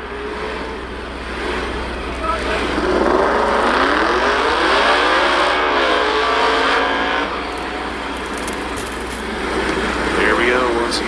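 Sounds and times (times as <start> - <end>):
drag race car engines revving: 0.0 - 11.0.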